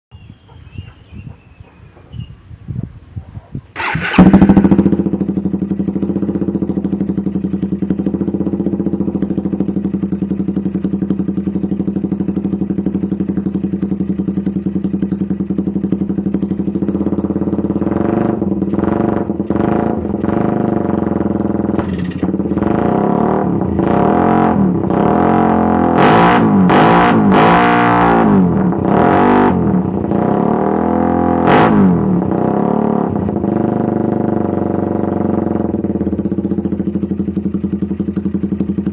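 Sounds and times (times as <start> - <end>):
motorcycle engine idling and revving: 0.1 - 38.9.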